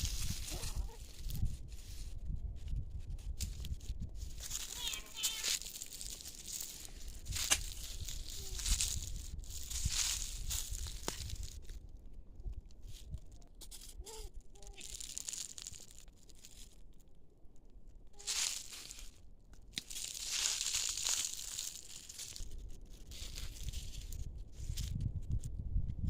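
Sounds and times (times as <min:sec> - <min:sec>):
leaves and stems rustling and tearing: 0:00.0 - 0:11.8, 0:12.5 - 0:16.8, 0:18.2 - 0:25.0.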